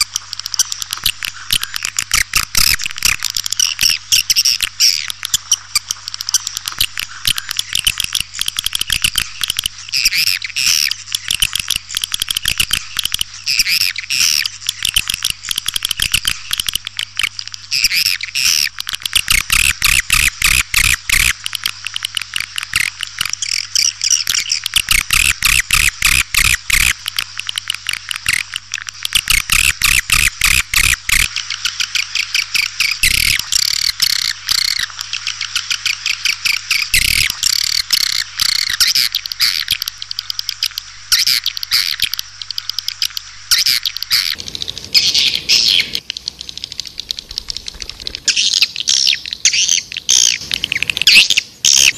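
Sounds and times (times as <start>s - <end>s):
swiftlets chirping and trilling: 0.0s - 51.9s.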